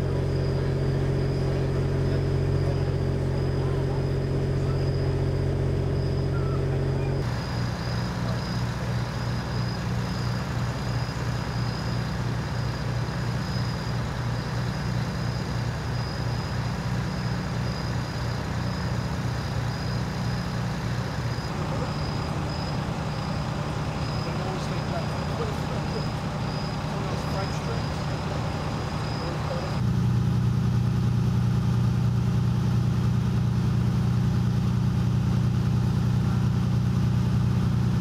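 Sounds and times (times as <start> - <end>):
engine idling with high whine: 0.0 - 38.0
engine idling with low throb: 0.0 - 38.0.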